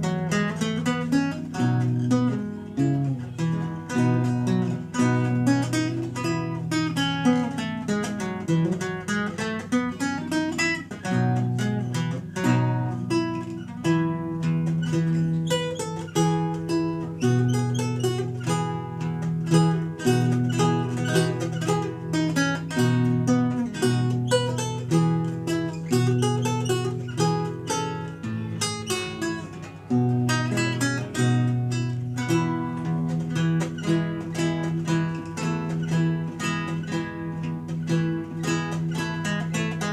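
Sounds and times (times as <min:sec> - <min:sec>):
solo lute playing: 0:00.0 - 0:39.9.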